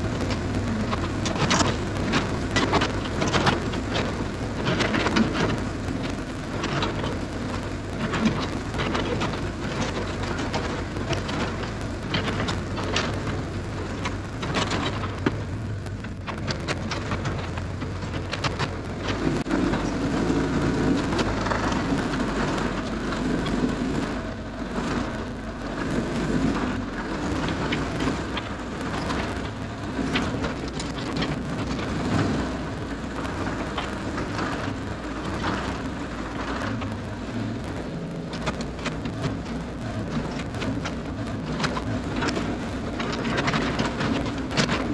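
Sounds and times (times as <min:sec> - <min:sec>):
excavator diesel engine running: 0:00.0 - 0:44.9
sharp clicks and snaps: 0:00.0 - 0:44.9.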